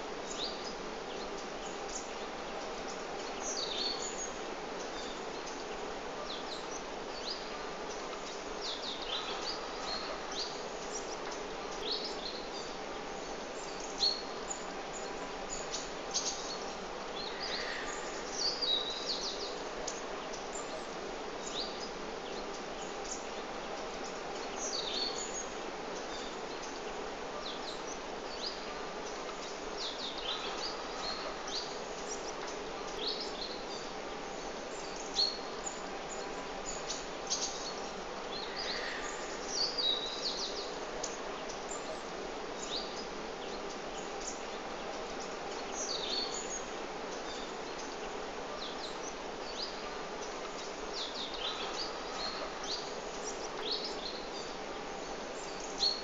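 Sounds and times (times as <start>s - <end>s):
small songbirds chirping: 0.0s - 56.0s
steady background noise: 0.0s - 56.0s.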